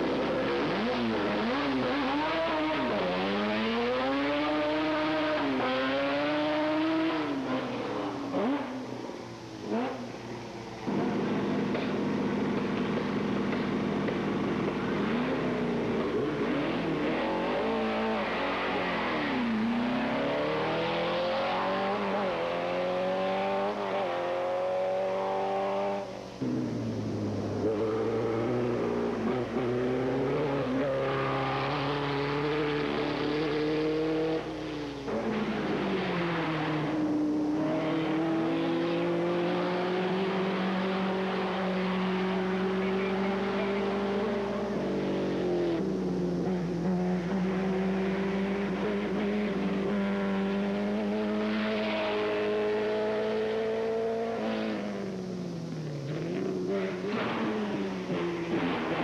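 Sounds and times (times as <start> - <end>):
race car engines accelerating: 0.0 - 59.0.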